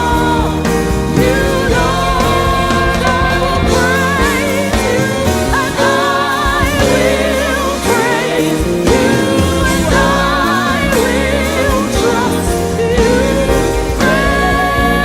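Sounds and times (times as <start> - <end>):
lead vocalist singing: 0.0 - 15.0
live band playing: 0.0 - 15.0.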